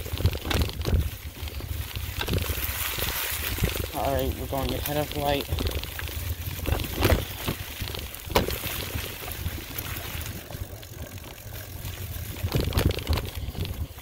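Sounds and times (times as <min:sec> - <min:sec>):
bike clattering over bumps: 0:00.0 - 0:14.0
wind rumble on microphone: 0:00.0 - 0:14.0.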